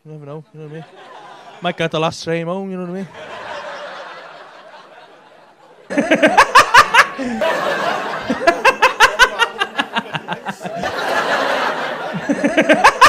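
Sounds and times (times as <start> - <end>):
audience laughter: 0.8 - 1.8, 3.1 - 13.0.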